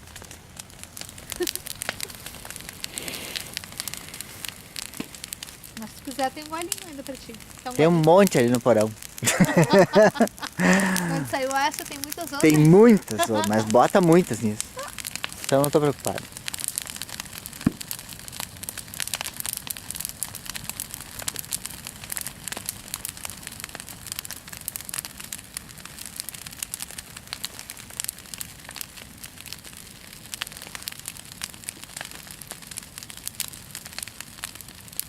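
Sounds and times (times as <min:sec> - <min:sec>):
bonfire crackling: 0:00.0 - 0:35.0.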